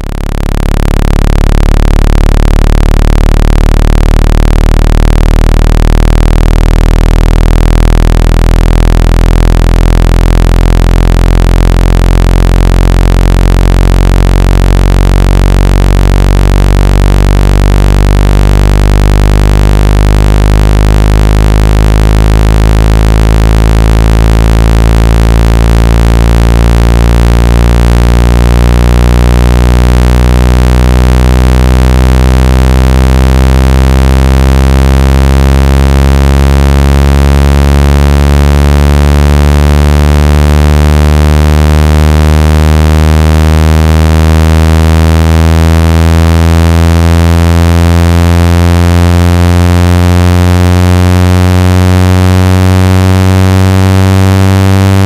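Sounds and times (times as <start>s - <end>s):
low electronic buzzing tone: 0.0s - 55.0s.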